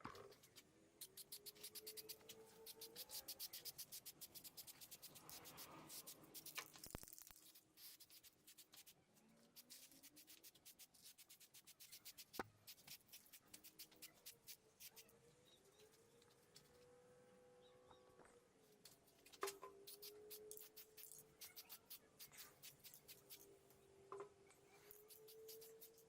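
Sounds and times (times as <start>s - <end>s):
faint rubbing strokes: 0.2s - 16.8s, 19.8s - 23.6s, 24.7s - 26.0s.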